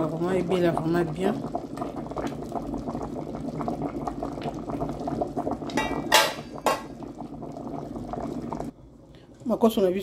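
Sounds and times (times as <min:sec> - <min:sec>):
water boiling: 0:00.0 - 0:10.0.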